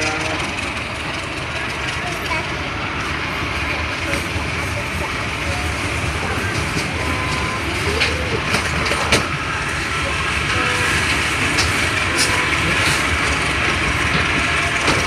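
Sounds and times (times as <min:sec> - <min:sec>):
passenger train rumbling past: 0:00.0 - 0:15.0
train wheels clicking: 0:00.0 - 0:15.0.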